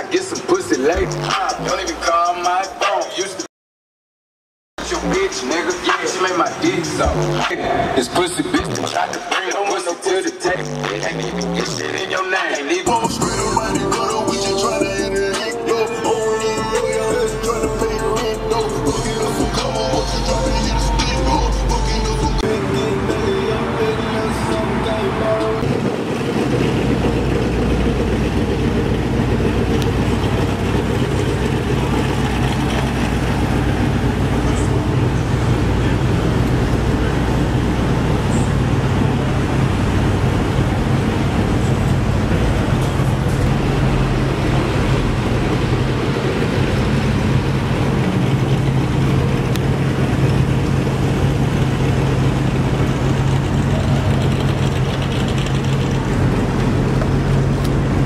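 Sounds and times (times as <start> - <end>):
road traffic noise: 0.0 - 3.5, 4.8 - 58.0
vehicle engine idling: 4.8 - 58.0.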